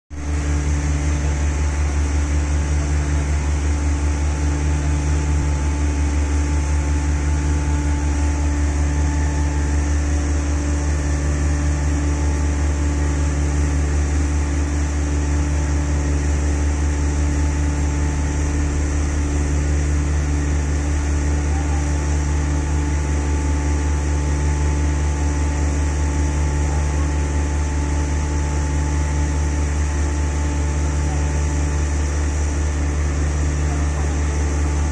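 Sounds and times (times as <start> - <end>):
heavy machinery droning: 0.1 - 34.9.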